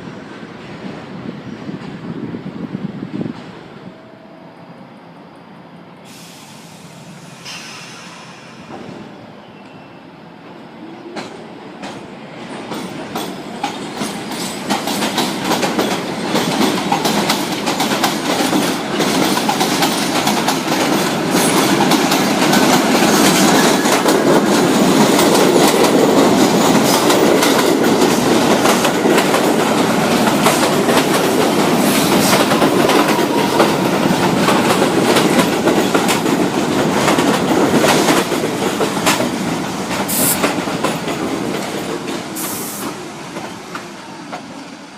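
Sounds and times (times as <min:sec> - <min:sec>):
subway train rumble: 0:00.0 - 0:44.9.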